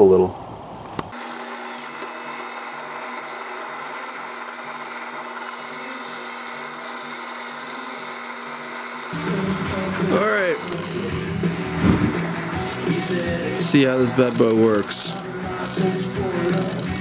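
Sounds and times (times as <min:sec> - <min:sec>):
drill press motor hum: 0:01.1 - 0:17.0
drill bit scraping metal: 0:01.2 - 0:09.2, 0:09.8 - 0:17.0.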